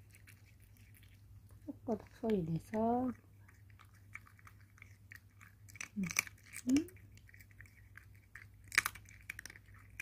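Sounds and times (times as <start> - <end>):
cat crunching treats: 0.0 - 10.0.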